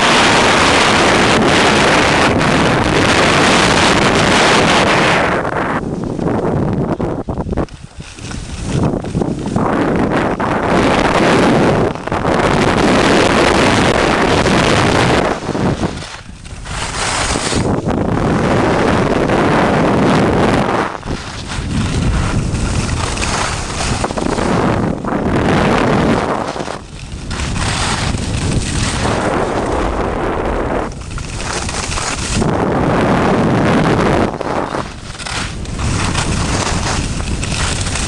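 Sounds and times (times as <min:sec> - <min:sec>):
skis scraping on snow: 0:00.0 - 0:38.0
wind rushing over microphone: 0:00.0 - 0:38.0.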